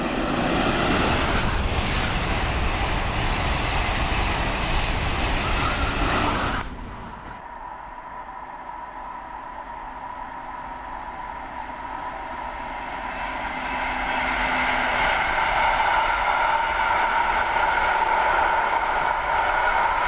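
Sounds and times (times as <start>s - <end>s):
train wheels on rails: 0.0s - 7.4s, 9.6s - 20.0s
faint locomotive hum: 0.0s - 20.0s.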